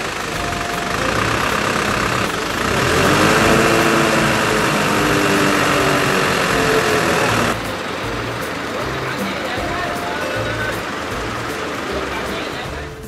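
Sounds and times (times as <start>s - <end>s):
crane engine running under load: 0.0s - 13.0s.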